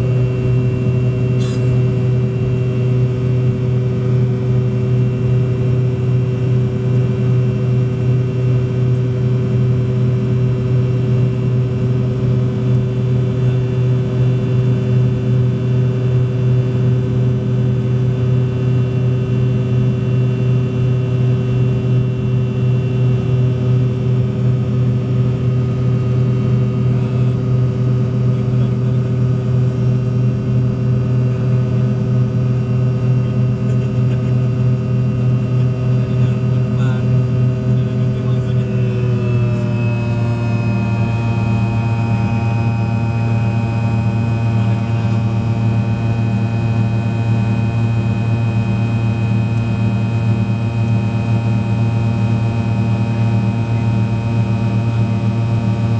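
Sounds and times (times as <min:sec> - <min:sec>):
jet engines droning: 0:00.0 - 0:55.9.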